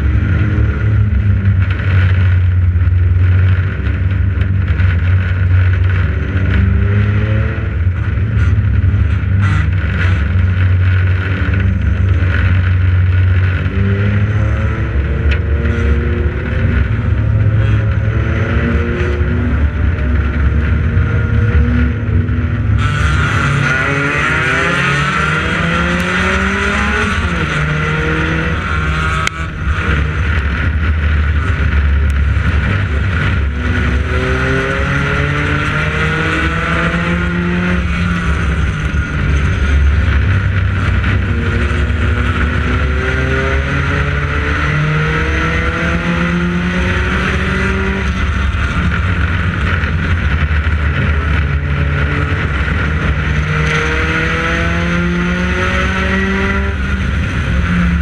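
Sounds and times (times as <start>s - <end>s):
heavy low rumble: 0.0s - 58.0s
race car engine: 0.0s - 58.0s.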